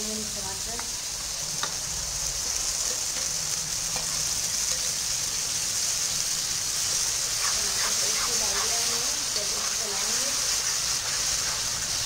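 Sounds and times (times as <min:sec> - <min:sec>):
puree sizzling in hot oil: 0:00.0 - 0:12.0.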